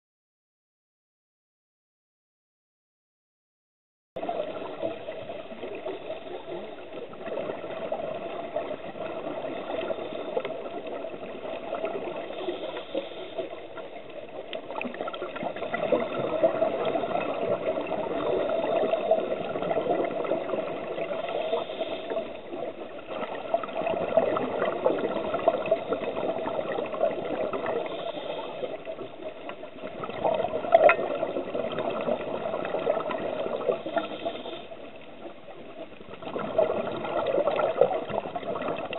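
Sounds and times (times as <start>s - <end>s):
underwater bubbles gurgling: 4.2s - 38.9s.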